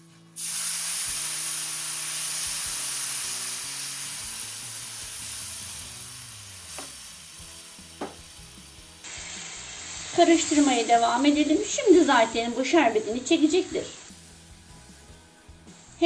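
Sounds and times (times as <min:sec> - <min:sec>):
syrup hissing in hot fat: 0:00.4 - 0:16.0.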